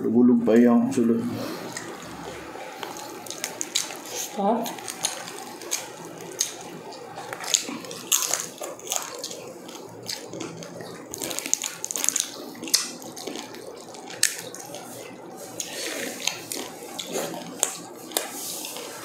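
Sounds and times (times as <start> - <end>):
crispy pork skin crackling: 1.4 - 19.0
wet chewing and mouth clicks: 1.4 - 19.0.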